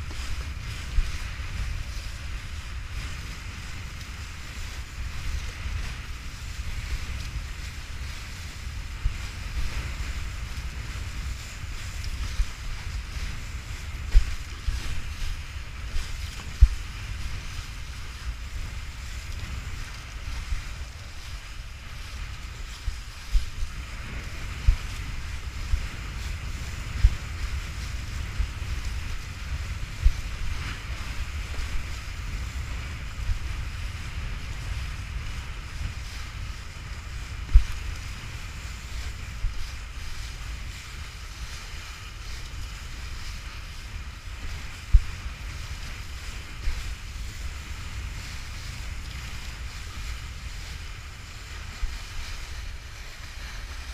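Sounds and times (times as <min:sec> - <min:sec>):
water spray hiss: 0:00.0 - 0:53.9
wind buffeting microphone: 0:00.0 - 0:53.9.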